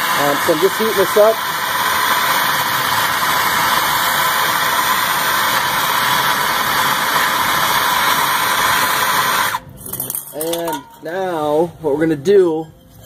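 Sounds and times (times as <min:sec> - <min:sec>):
torch flame hissing: 0:00.0 - 0:10.6.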